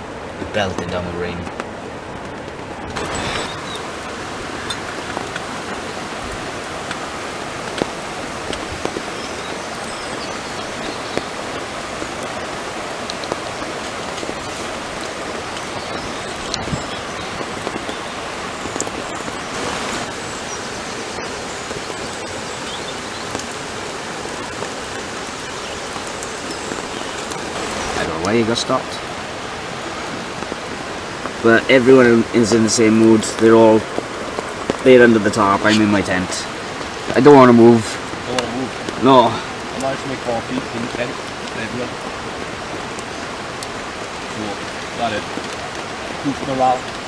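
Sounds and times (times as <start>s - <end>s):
heavy rain on a canvas tent: 0.0s - 47.0s.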